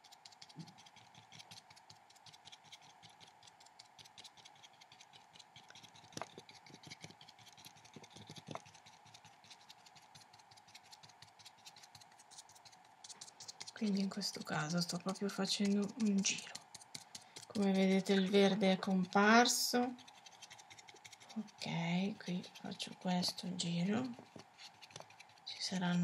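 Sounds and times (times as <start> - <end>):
faint steady hum: 0.0 - 26.0
paintbrush dabbing on paper: 0.0 - 26.0.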